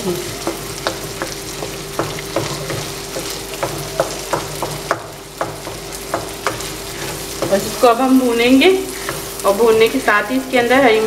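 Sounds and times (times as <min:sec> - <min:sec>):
food sizzling in oil: 0:00.0 - 0:11.0
wooden spatula scraping a pan: 0:00.2 - 0:10.2.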